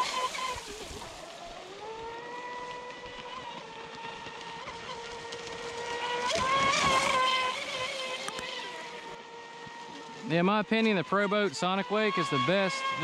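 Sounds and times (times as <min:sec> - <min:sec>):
hull hiss and spray splash: 0:00.0 - 0:13.0
rc boat motor whine: 0:00.0 - 0:13.0.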